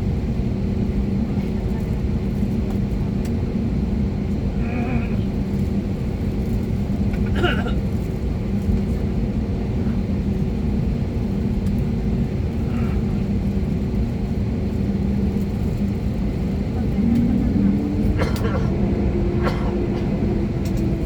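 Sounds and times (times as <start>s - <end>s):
airplane cabin rumble: 0.0s - 21.0s.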